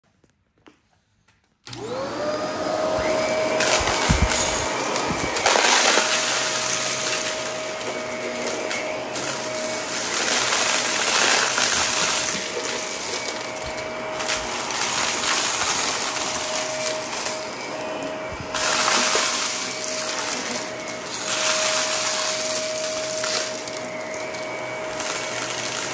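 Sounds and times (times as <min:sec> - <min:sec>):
vacuum cleaner motor whine: 0:01.6 - 0:25.9
debris rattling in vacuum: 0:01.7 - 0:25.9.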